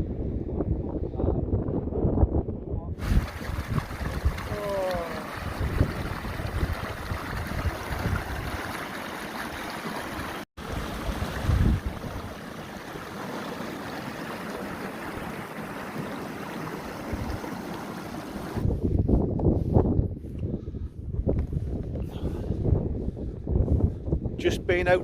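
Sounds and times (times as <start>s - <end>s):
wind buffeting microphone: 0.0s - 9.0s, 9.6s - 13.1s, 16.8s - 25.0s.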